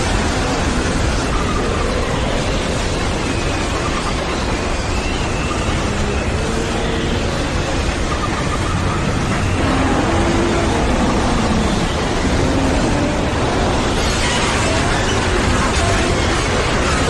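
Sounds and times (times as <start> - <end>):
strong wind rushing: 0.0 - 17.0
faint wavering whistles: 1.2 - 15.4.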